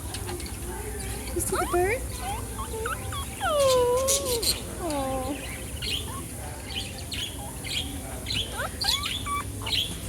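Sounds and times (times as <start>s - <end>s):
small birds chirping: 0.1s - 10.0s.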